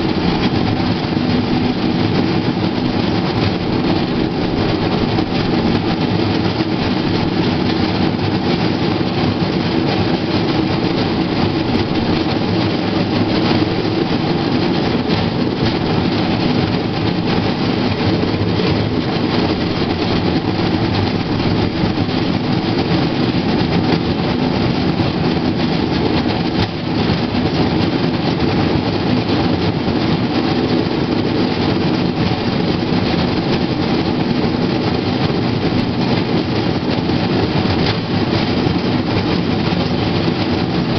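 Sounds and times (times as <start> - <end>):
steel wheels rolling on track: 0.0 - 40.9.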